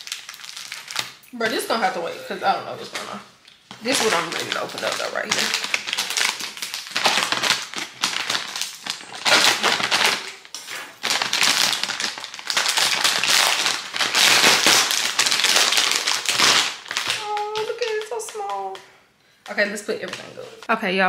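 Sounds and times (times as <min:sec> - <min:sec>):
plastic bag crinkling and tearing: 0:00.0 - 0:18.8, 0:19.5 - 0:20.7.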